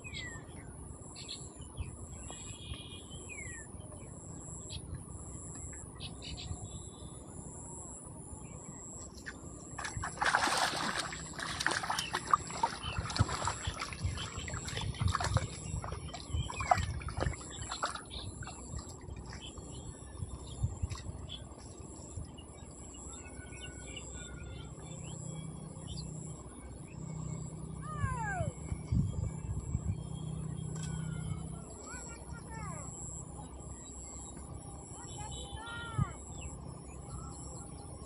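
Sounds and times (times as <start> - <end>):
faint birds chirping: 0.0 - 38.0.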